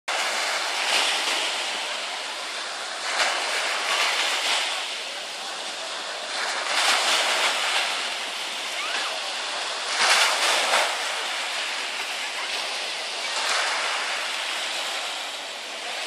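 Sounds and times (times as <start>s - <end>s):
waves washing on pebbly shore: 0.1s - 16.0s.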